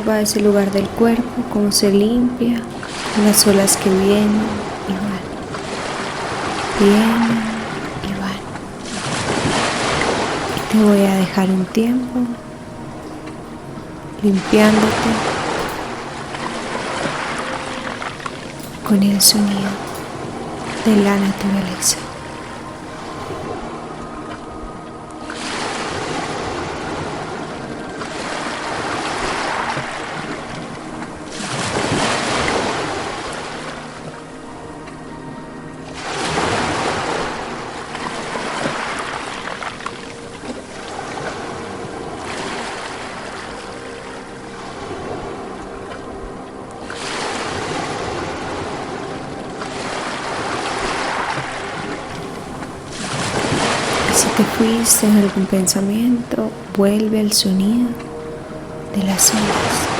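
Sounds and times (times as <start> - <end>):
ocean waves washing onto shore: 0.0 - 35.1, 35.8 - 59.9.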